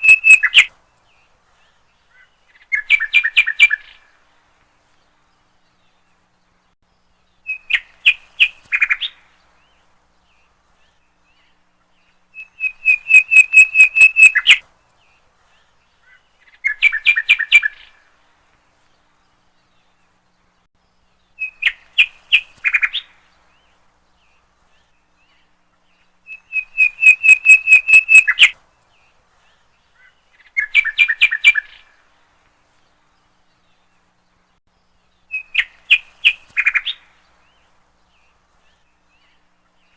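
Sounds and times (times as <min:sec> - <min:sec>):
bird chirping: 0:00.0 - 0:04.2, 0:04.8 - 0:18.2, 0:18.8 - 0:39.9.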